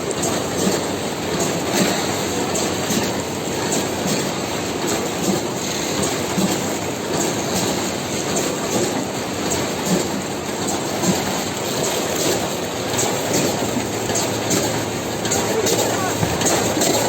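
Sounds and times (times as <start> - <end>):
packaging machine clattering: 0.0 - 17.0.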